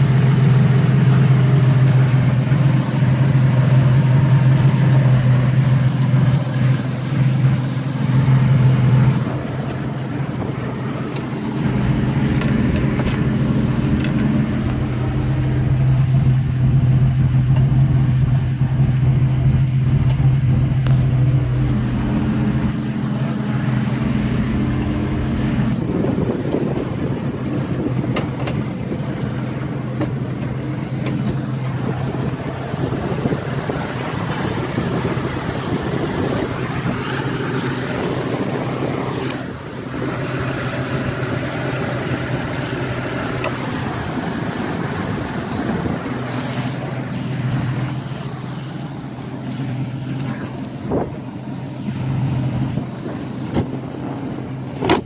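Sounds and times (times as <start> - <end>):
outboard engine running: 0.0 - 55.0
water noise: 0.0 - 55.0
wind: 0.0 - 55.0.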